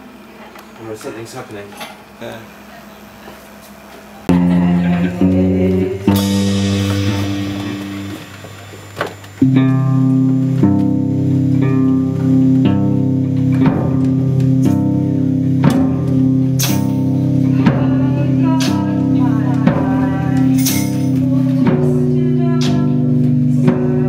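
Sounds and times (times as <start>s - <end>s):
electric guitar playing: 4.2s - 24.0s
sustained low tone: 4.3s - 24.0s.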